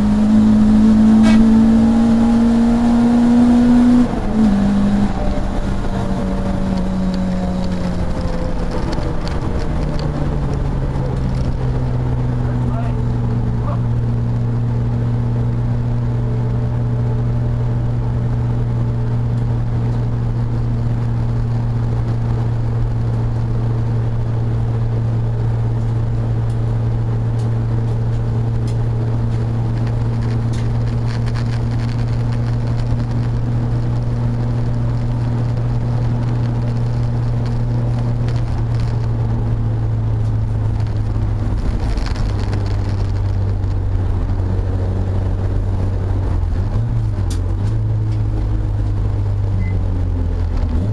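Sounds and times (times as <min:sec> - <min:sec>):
race car engine from inside: 0:00.0 - 0:50.9.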